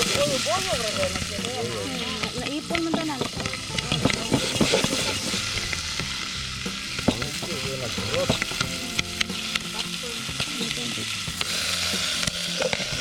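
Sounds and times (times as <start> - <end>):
popcorn kernels popping: 0.0 - 13.0
sizzling hiss: 0.0 - 13.0.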